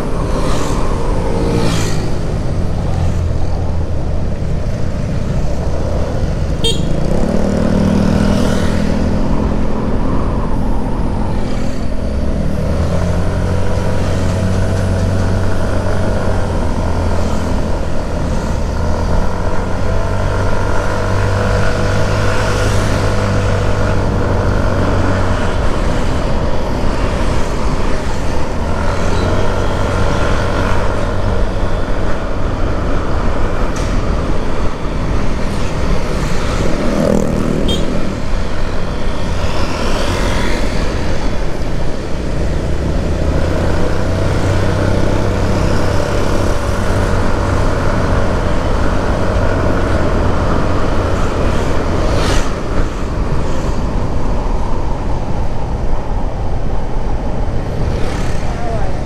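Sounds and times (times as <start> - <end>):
road noise rushing: 0.0 - 59.0.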